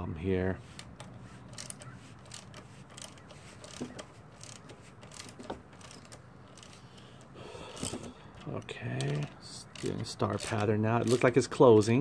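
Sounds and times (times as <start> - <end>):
socket ratchet clicking: 0.7 - 12.0.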